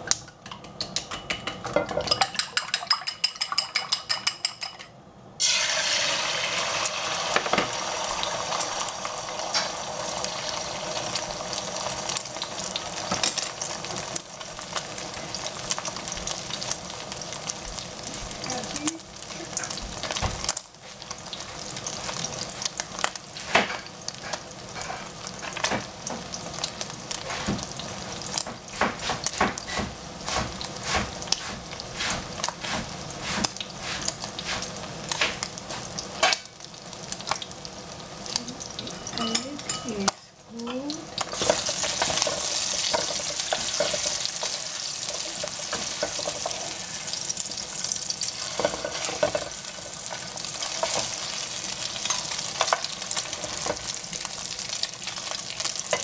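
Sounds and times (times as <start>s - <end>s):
crackles and pops of frying: 0.0s - 56.0s
egg sizzling in oil: 5.4s - 56.0s.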